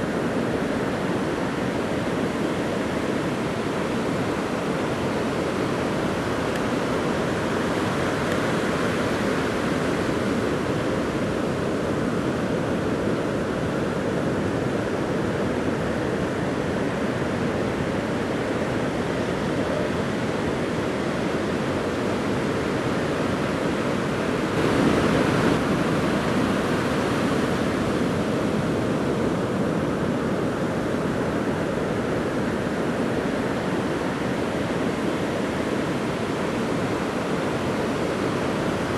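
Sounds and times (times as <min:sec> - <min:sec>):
heavy surf breaking on beach: 0:00.0 - 0:38.9.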